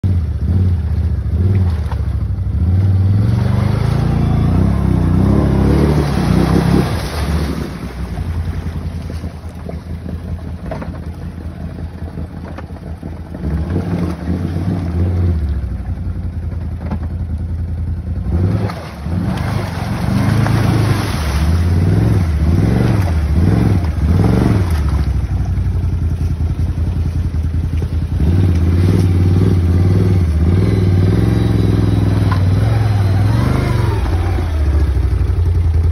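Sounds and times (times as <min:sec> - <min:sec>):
atv engine revving: 0:00.0 - 0:35.9.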